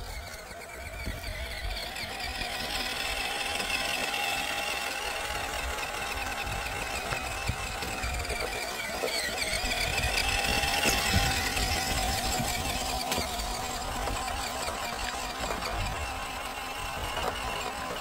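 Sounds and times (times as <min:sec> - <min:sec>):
electric motor and gearbox whining: 0:00.0 - 0:18.0.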